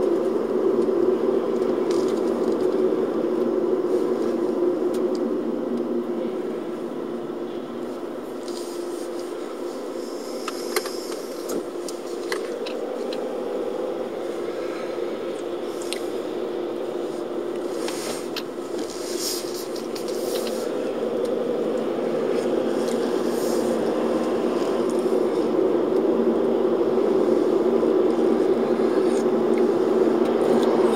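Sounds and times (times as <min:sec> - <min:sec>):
car engine and road drone: 0:00.0 - 0:30.9.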